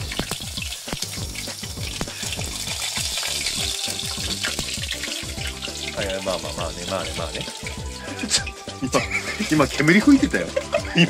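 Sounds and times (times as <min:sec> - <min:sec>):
deep-frying sizzle and pops: 0:00.0 - 0:11.0.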